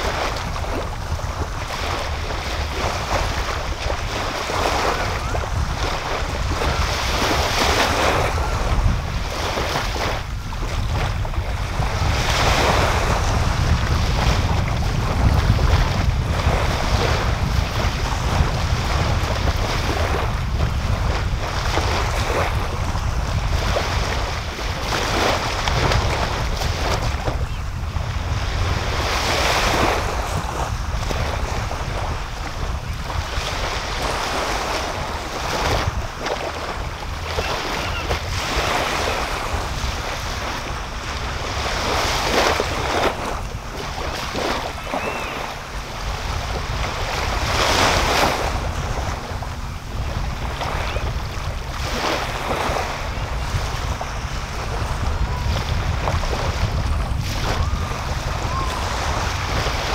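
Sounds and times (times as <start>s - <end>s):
waves washing on sandy beach: 0.0s - 59.9s
wind rumble on microphone: 0.0s - 59.9s.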